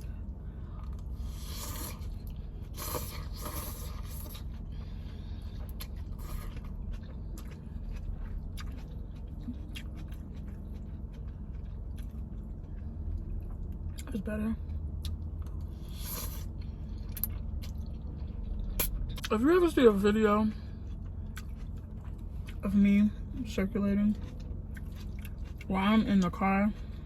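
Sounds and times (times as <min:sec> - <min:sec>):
low hum: 0:00.0 - 0:27.0
chewing: 0:00.6 - 0:19.3, 0:20.6 - 0:22.6, 0:24.1 - 0:27.0.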